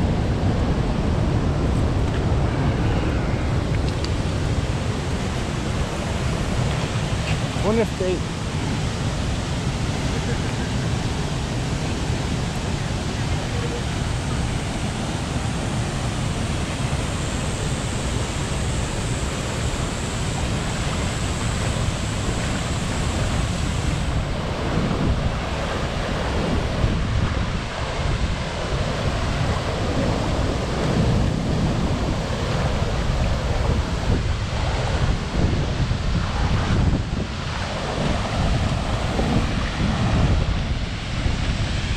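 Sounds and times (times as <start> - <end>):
waterfall rushing: 0.0 - 41.9
wind buffeting microphone: 0.0 - 41.9.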